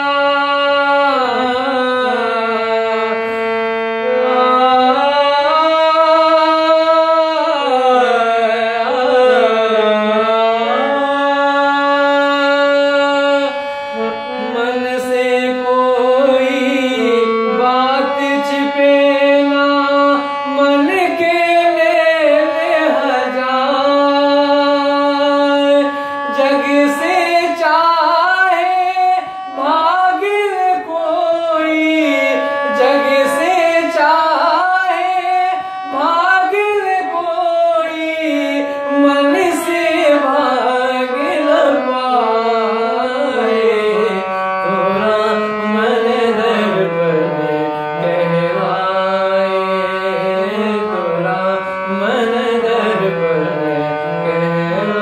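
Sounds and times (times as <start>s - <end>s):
harmonium: 0.0s - 55.0s
man singing devotional song: 0.0s - 55.0s.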